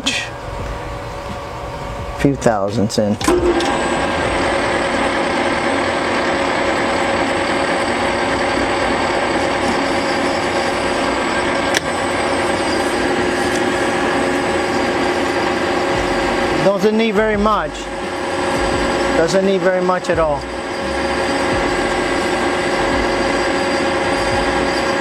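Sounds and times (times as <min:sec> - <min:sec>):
metal lathe cutting: 0:00.0 - 0:25.0.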